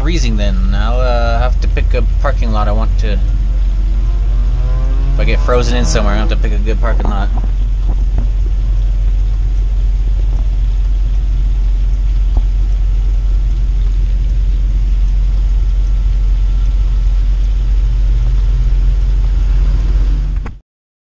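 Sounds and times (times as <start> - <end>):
engine rumbling inside cab: 0.0 - 20.6.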